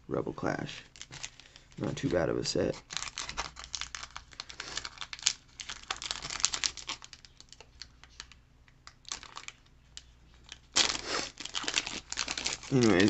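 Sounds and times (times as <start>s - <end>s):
foil wrapper crinkling: 0.9s - 13.0s.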